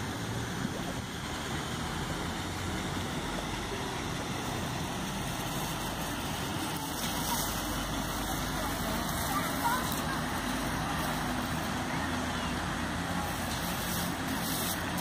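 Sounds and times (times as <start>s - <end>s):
distant road traffic hum: 0.0s - 15.0s
faint hiss: 0.1s - 15.0s.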